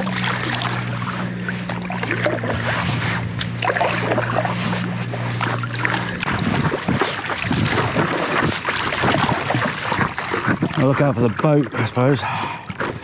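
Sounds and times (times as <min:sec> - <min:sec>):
paddle strokes splashing water: 0:00.0 - 0:13.0
steady low drone: 0:00.0 - 0:13.0.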